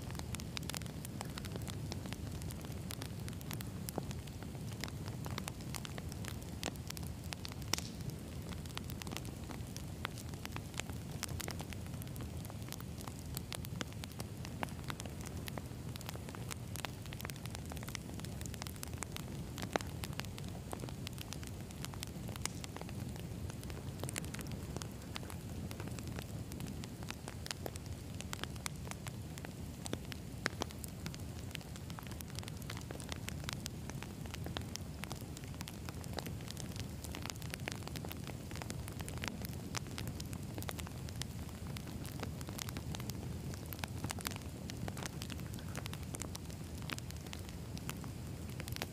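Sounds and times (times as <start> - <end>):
campfire crackling and snapping: 0.0 - 48.9
low fire rumble: 0.0 - 48.9
loud fire pops: 0.1 - 48.9.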